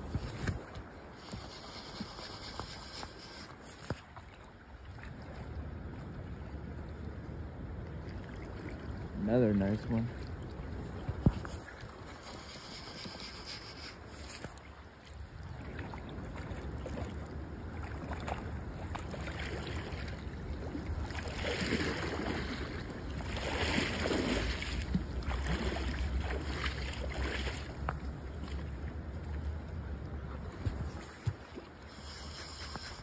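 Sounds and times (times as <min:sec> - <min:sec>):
stream flowing: 0:00.0 - 0:33.0
wind rumbling on microphone: 0:00.0 - 0:33.0.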